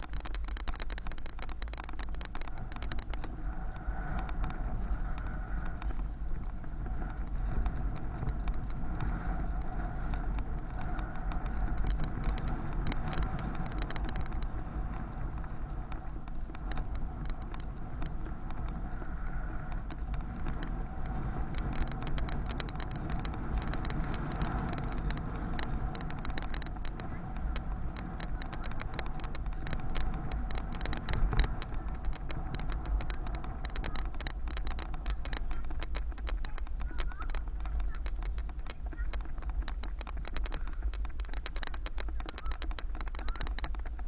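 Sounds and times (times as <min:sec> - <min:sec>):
fast bicycle ticking: 0:00.0 - 0:44.0
road noise: 0:00.0 - 0:44.0
wind rumbling on microphone: 0:00.0 - 0:44.0.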